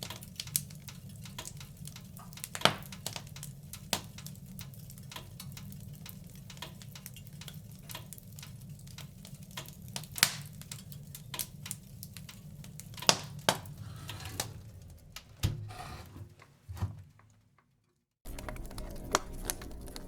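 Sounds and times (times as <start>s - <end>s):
wood fire crackling and popping: 0.0s - 15.4s, 18.2s - 20.0s
low rumble of flames: 0.1s - 15.4s, 18.3s - 20.0s.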